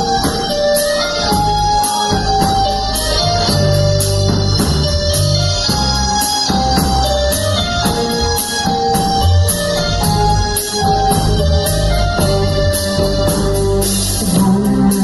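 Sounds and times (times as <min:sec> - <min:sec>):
bass line: 0:00.0 - 0:15.0
drum kit beat: 0:00.0 - 0:15.0
keyboard melody: 0:00.0 - 0:15.0.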